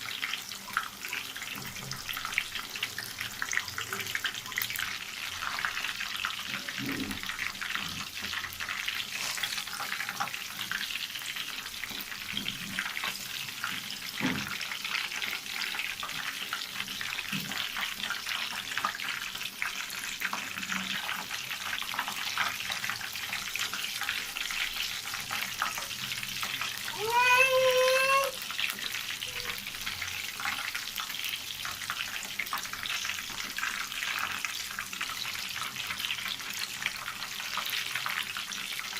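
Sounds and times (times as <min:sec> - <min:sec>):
chicken frying in oil: 0:00.0 - 0:38.9.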